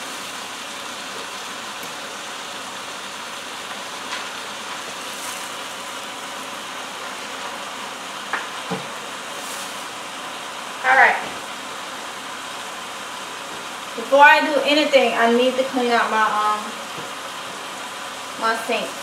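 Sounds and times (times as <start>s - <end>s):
chicken sizzling in a pot: 0.0s - 19.0s.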